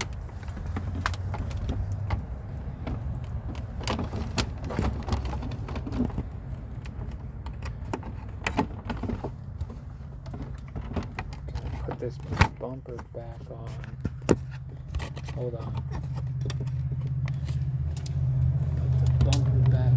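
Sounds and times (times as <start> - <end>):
clicks and knocks of car parts: 0.0 - 19.9.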